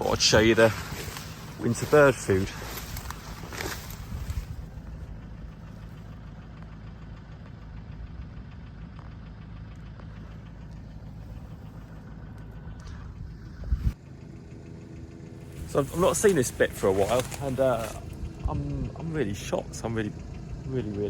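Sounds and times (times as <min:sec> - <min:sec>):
vehicle engine running at low revs: 0:00.0 - 0:21.0.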